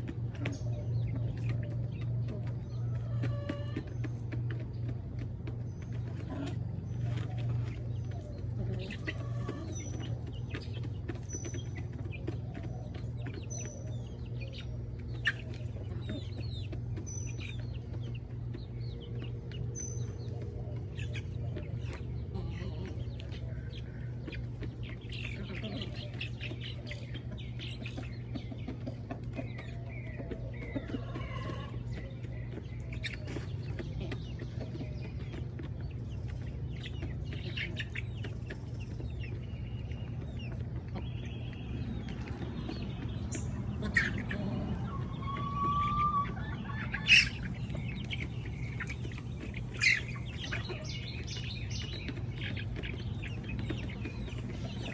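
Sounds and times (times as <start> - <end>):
chickens clucking: 0.0 - 54.9
small bird chirping: 0.0 - 54.9.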